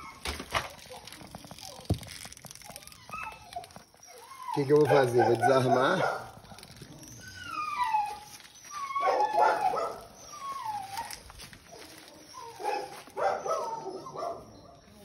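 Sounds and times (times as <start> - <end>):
dog whining and yelping: 0.0 - 15.0.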